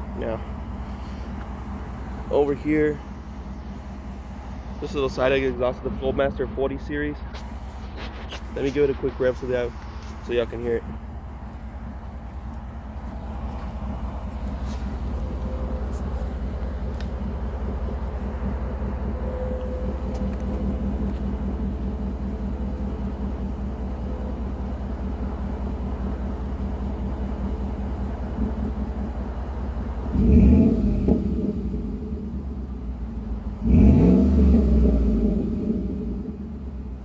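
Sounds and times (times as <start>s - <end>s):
truck engine idling and revving: 0.0s - 37.0s.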